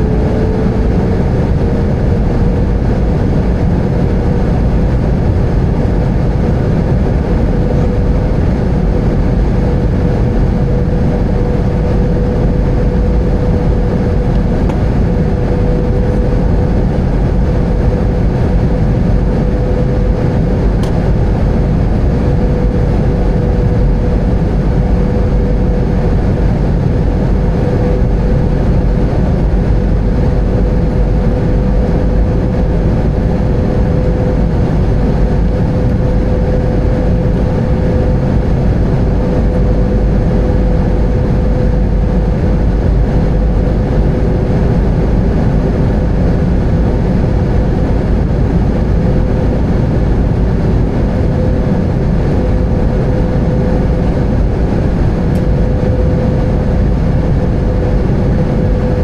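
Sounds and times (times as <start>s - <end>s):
airplane cabin engine rumble: 0.0s - 59.0s
constant hum tone: 0.0s - 59.0s.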